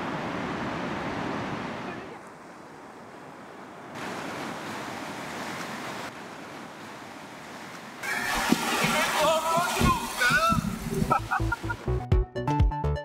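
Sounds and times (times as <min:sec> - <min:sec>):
ocean surf breaking: 0:00.0 - 0:11.9.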